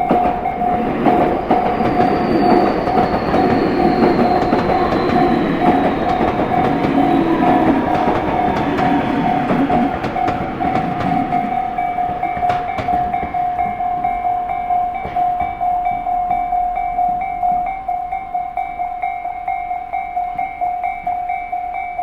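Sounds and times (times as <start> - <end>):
train wheels clattering over rails: 0.0 - 18.3
crossing warning bell ringing: 0.0 - 22.0.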